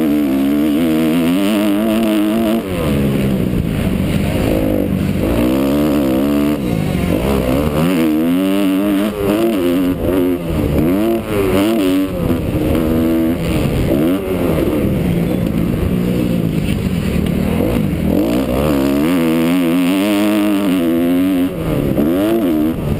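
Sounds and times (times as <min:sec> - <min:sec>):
motocross engine revving: 0:00.0 - 0:22.9.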